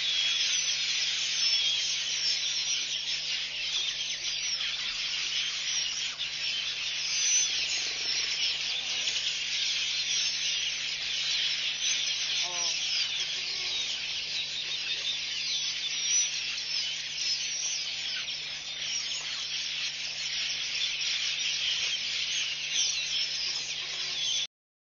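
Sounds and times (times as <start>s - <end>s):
insects and birds chorus: 0.0s - 24.5s.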